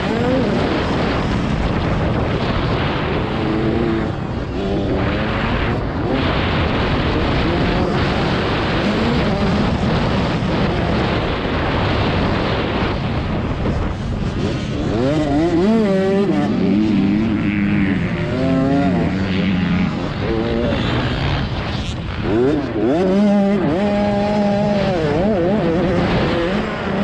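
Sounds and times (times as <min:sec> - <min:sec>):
dirt bike engine revving: 0:00.0 - 0:27.0
wind noise on microphone: 0:00.0 - 0:27.0.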